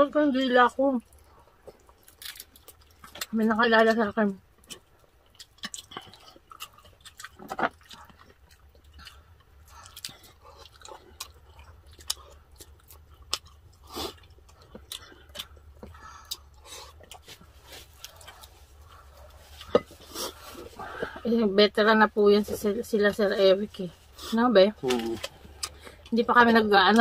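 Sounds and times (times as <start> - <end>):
people chewing and crunching: 0.1 - 27.0.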